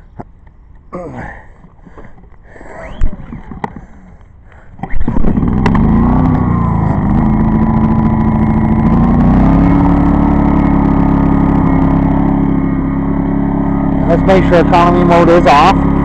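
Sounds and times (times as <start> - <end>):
generator engine starting and running: 1.0 - 16.0.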